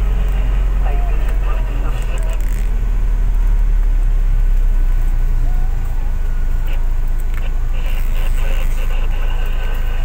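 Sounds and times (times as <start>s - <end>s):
road noise: 0.0s - 10.0s
van engine rumble: 0.0s - 10.0s.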